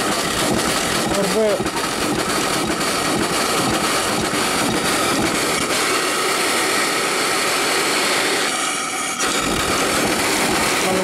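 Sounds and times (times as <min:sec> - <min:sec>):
steam and water hissing from valves: 0:00.0 - 0:11.0.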